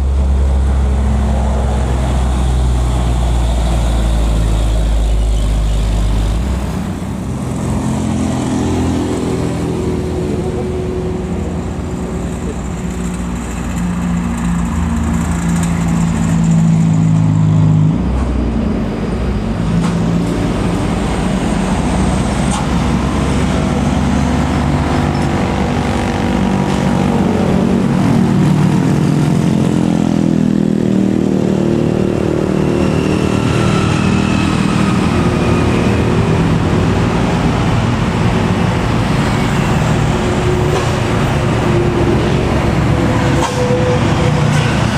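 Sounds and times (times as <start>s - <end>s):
diesel truck engine climbing: 0.0s - 44.9s.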